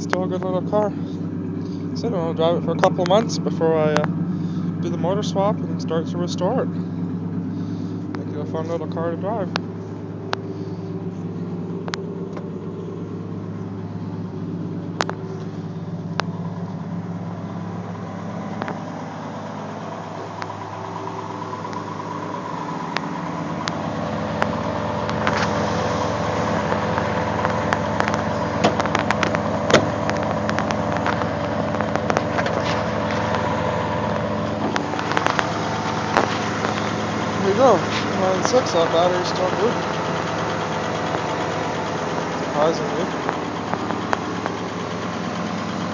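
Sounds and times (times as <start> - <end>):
car engine idling rough: 0.0 - 45.9.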